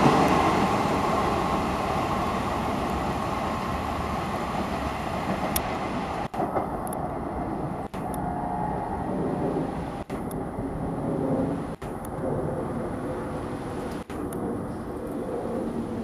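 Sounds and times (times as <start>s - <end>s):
distant locomotive engine drone: 0.0s - 16.0s
train coaches rumbling on rails: 0.0s - 16.0s.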